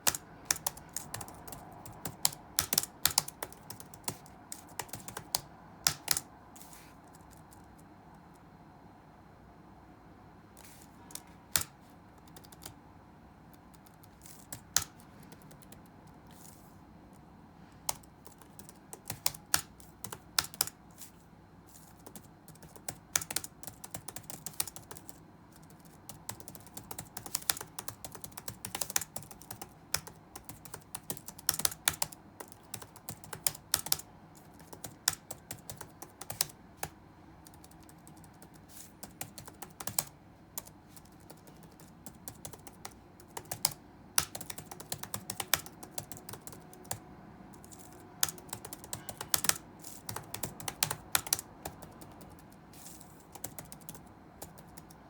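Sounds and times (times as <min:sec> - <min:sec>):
typing on keyboard: 0:00.0 - 0:06.3, 0:11.1 - 0:12.8, 0:13.5 - 0:16.2, 0:17.8 - 0:20.8, 0:21.7 - 0:55.0
faint room hum: 0:00.0 - 0:55.0.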